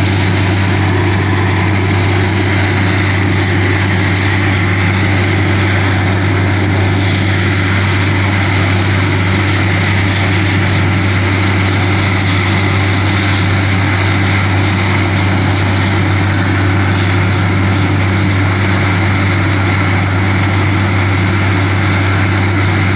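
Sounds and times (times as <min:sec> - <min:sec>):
drilling rig running: 0:00.0 - 0:22.9.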